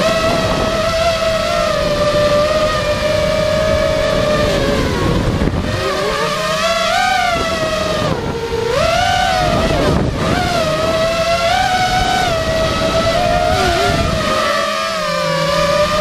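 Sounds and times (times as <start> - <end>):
drone motors and propellers whining: 0.0 - 16.0
wind buffeting microphone: 0.0 - 16.0.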